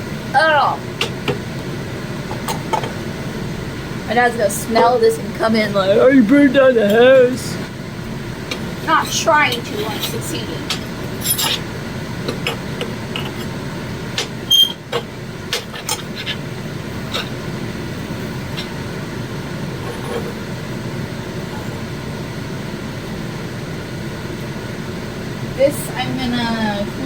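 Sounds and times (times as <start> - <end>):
mechanical hum: 0.0 - 27.0.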